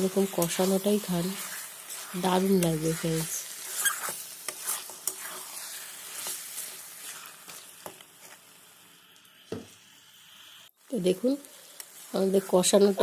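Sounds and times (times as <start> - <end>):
chicken sizzling in pan: 0.0 - 13.0.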